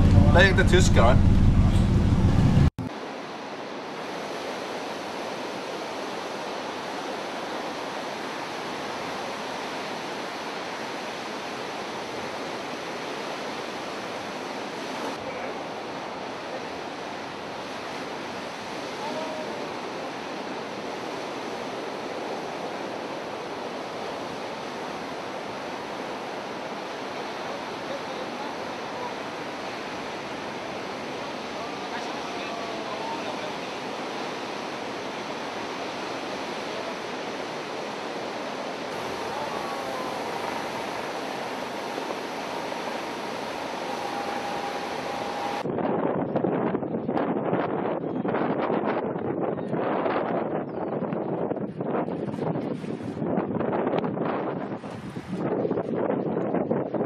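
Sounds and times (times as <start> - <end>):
rushing water: 0.0 - 45.7, 51.0 - 57.0.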